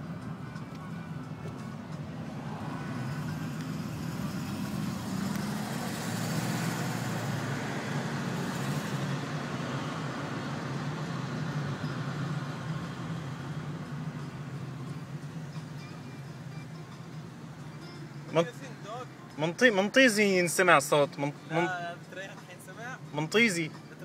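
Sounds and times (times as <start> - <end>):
car engine droning: 0.0 - 19.3.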